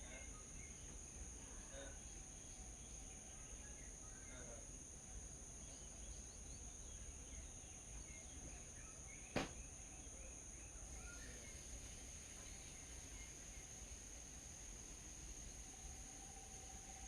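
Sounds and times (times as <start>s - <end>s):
faint bird chirps: 0.0s - 14.4s
faint insect drone: 0.0s - 17.0s.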